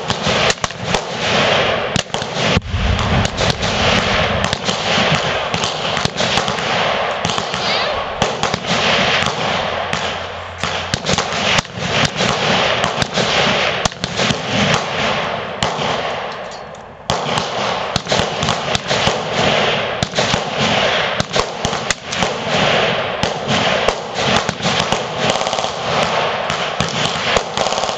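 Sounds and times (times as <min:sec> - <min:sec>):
rapid rifle gunfire: 0:00.0 - 0:16.3, 0:17.1 - 0:27.9.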